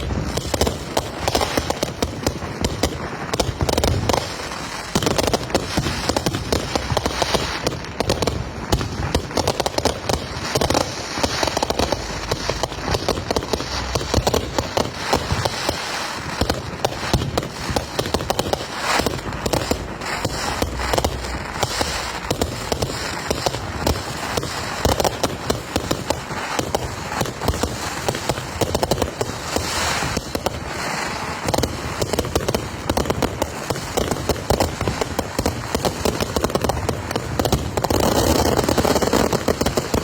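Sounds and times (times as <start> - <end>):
fireworks crackling and banging: 0.0 - 40.0.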